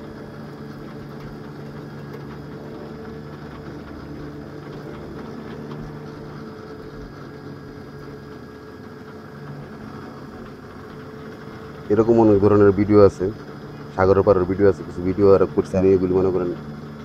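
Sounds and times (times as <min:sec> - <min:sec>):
winch motor and engine hum: 0:00.0 - 0:17.0.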